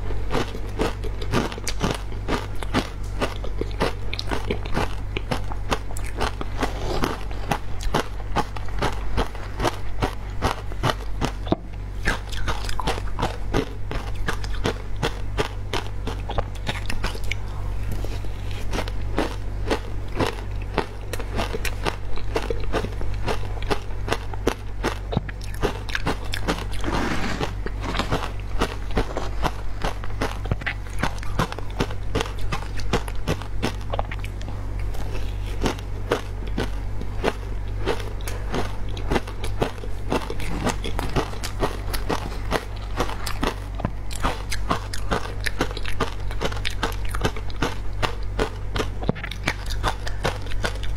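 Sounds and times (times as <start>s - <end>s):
chewing and crunching ice: 0.0s - 50.9s
steady low hum: 0.0s - 50.9s.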